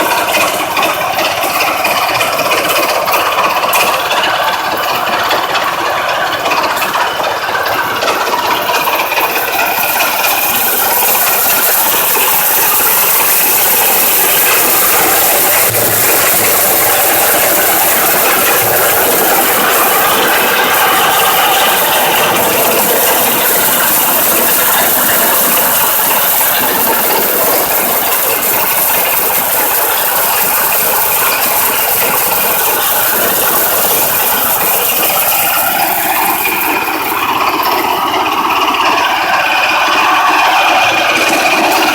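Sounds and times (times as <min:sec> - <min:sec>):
harvester engine running: 0:00.0 - 0:41.9.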